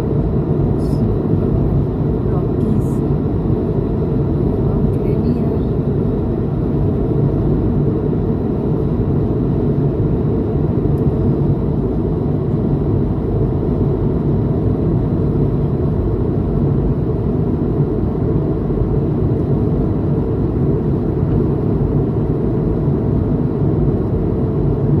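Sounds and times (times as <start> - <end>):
low rumble of moving vehicle: 0.0 - 25.0.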